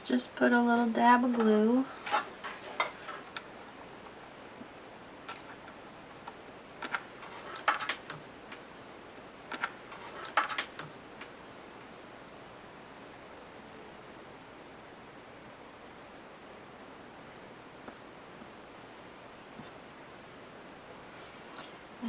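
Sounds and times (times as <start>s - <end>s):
faint room hiss: 0.0s - 22.0s.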